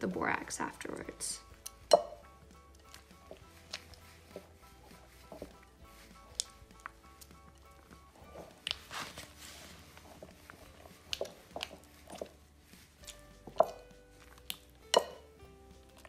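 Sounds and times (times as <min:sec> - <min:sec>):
faint background music: 0:00.0 - 0:16.0
soft wet squishing: 0:01.4 - 0:16.0.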